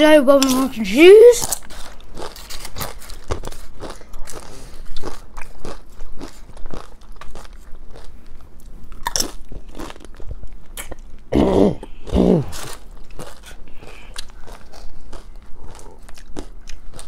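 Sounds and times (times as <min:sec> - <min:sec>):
tortilla chips crunching: 0:01.4 - 0:11.2, 0:12.0 - 0:17.0.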